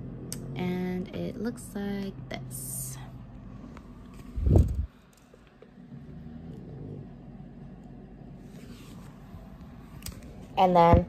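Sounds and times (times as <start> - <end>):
faint rumble and rustle: 0.0 - 11.0.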